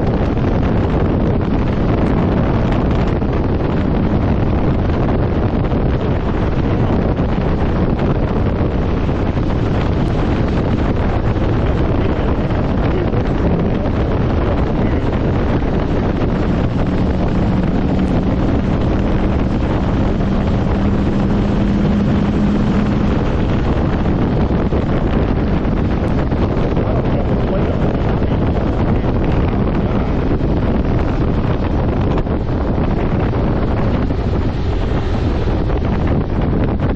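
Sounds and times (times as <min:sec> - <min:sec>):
motorcycle engine hum: 0:00.0 - 0:36.9
wind rushing over microphone: 0:00.0 - 0:36.9.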